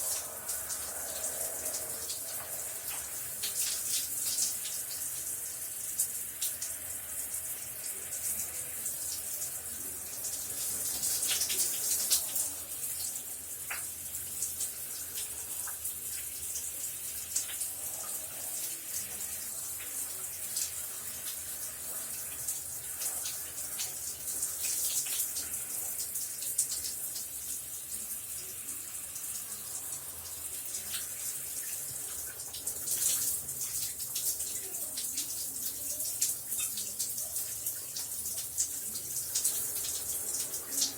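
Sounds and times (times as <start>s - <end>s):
water splashing and dripping: 0.0s - 7.6s, 10.2s - 40.9s
shower water spraying: 0.0s - 40.9s.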